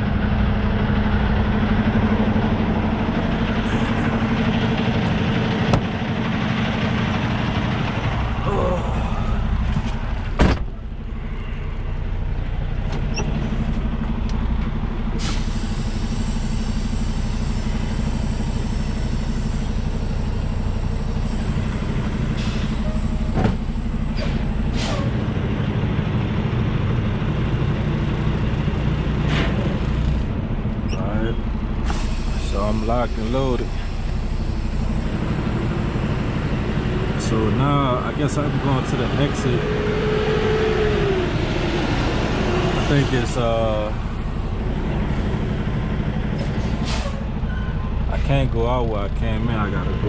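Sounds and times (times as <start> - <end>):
truck diesel engine running: 0.0 - 50.0.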